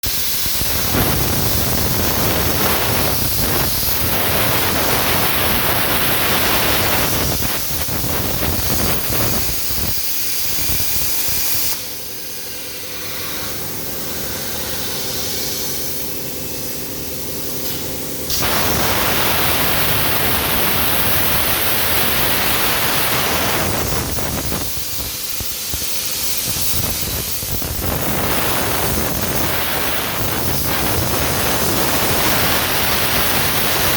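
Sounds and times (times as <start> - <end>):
plasma cutter hissing: 0.0 - 33.9.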